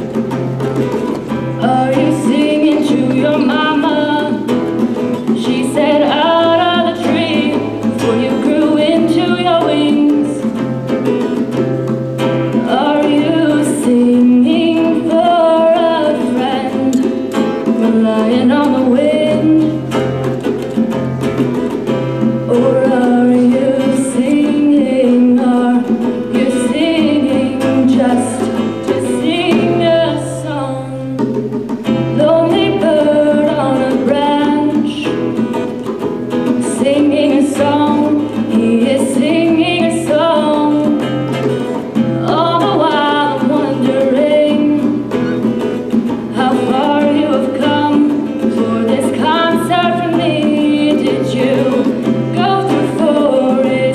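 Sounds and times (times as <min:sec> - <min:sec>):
guitar: 0:00.0 - 0:53.9
person singing: 0:01.5 - 0:10.6, 0:12.5 - 0:19.9, 0:22.5 - 0:31.4, 0:32.0 - 0:35.2, 0:36.5 - 0:45.1, 0:46.3 - 0:53.9.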